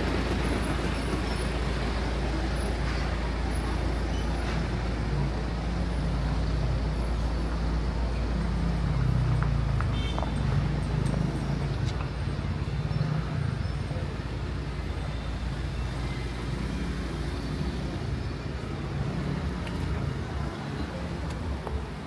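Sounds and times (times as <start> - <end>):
street traffic: 0.0 - 22.0
vehicle engine rumble: 0.0 - 22.0.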